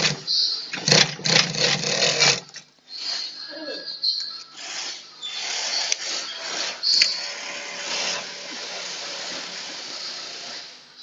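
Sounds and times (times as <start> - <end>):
sewing machine whirring: 0.0 - 2.6, 4.6 - 11.0.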